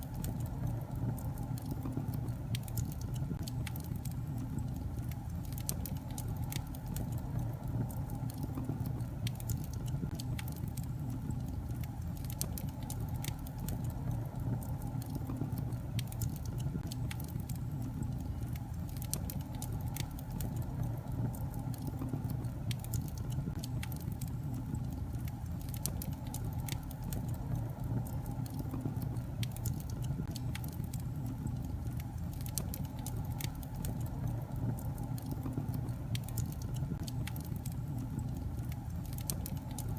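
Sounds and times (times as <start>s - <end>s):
crackles and pops of burning logs: 0.0s - 39.9s
low roar of flames: 0.0s - 39.9s.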